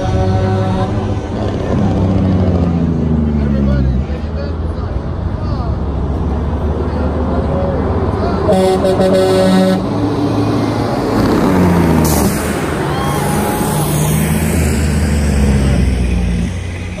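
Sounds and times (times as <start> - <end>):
truck diesel engine passing: 0.0 - 17.0.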